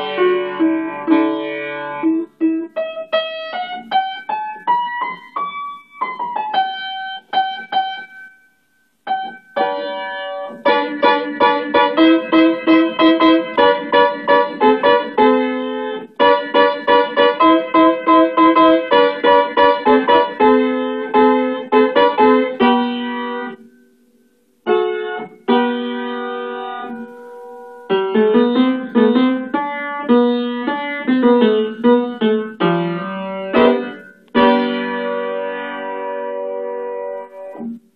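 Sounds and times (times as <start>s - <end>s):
upright piano playing: 0.0s - 23.8s, 24.6s - 37.9s.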